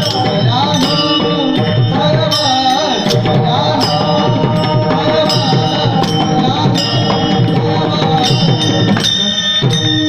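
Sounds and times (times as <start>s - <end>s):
devotional music: 0.0s - 10.0s
drum rhythm: 0.0s - 10.0s
metallic hand cymbal strikes: 0.0s - 10.0s
sustained held tones: 0.0s - 10.0s.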